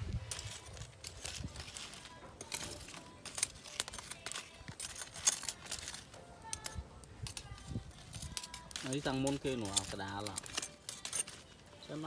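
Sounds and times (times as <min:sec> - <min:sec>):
fat sizzling on a grill: 0:00.0 - 0:12.0.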